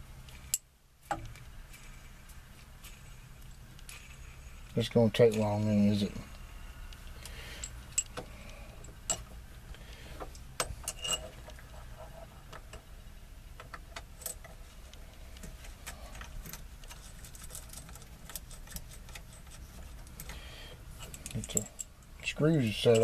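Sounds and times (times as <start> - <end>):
small metal parts clicking: 0.2 - 9.3, 10.3 - 11.7, 13.6 - 14.6, 15.3 - 23.0.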